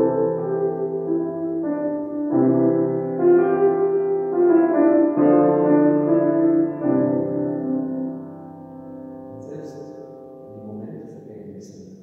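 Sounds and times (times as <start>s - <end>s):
grand piano chords: 0.0s - 12.0s.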